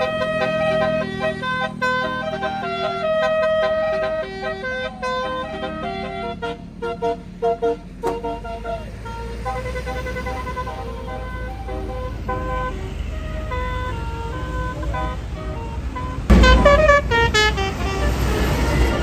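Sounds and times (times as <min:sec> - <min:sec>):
bus engine rumble: 0:00.0 - 0:19.0
multi-tone bus horn tune: 0:00.0 - 0:19.0.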